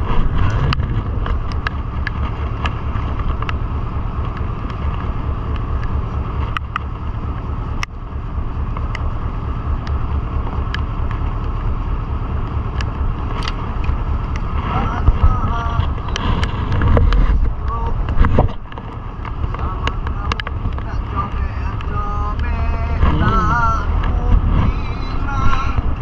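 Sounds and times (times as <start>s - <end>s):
boat low rumble: 0.0s - 26.0s
wind buffeting microphone: 0.0s - 26.0s
sharp ticks: 0.7s - 24.4s.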